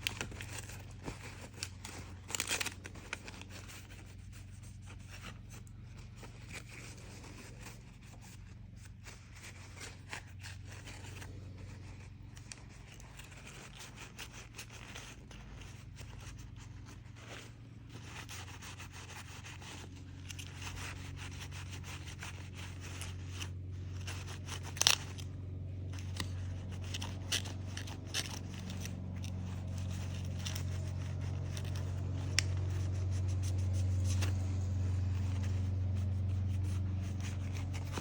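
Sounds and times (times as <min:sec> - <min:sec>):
faint scraping and rubbing: 0:00.0 - 0:38.0
steady low hum: 0:00.0 - 0:38.0.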